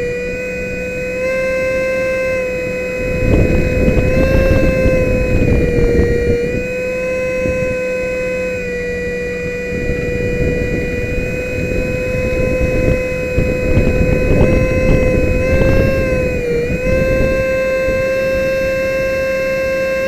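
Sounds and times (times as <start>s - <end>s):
electric ducted fan whining: 0.0s - 20.0s
wind rushing over microphone: 0.0s - 20.0s.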